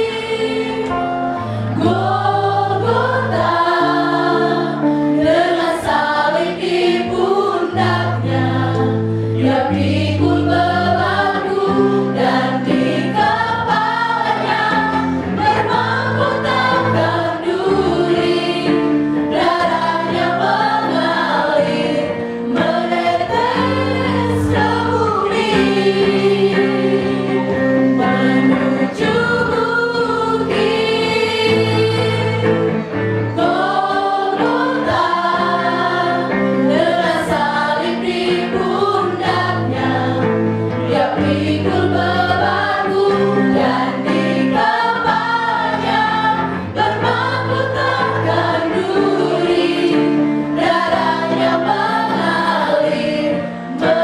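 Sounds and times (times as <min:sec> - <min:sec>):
women singing worship song: 0:00.0 - 0:32.7, 0:33.3 - 0:54.0.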